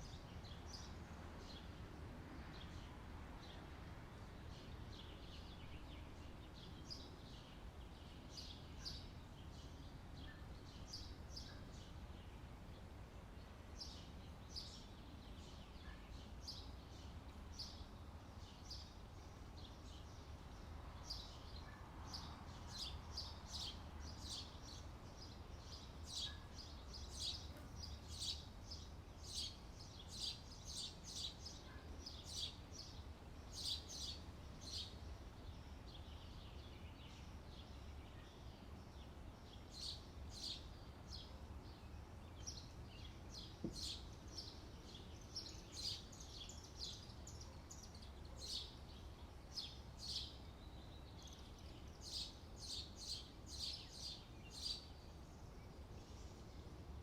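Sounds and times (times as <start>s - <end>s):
small birds chirping: 0.0s - 57.0s
steady low background noise: 0.0s - 57.0s.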